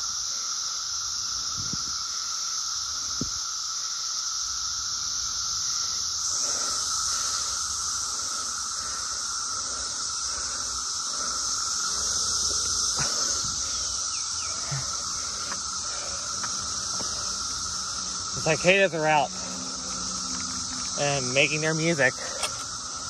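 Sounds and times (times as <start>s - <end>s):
cicadas droning shrilly: 0.0s - 23.0s.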